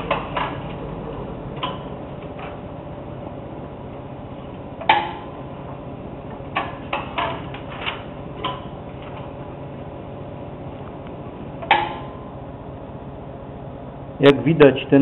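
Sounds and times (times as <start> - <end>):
copier humming: 0.0 - 15.0.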